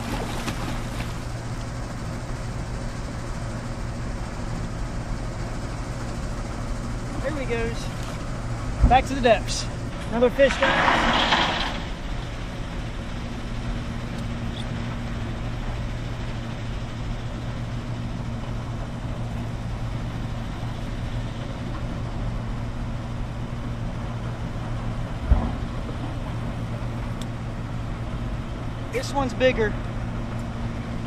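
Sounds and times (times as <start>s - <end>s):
heavy machinery drone: 0.0s - 31.0s.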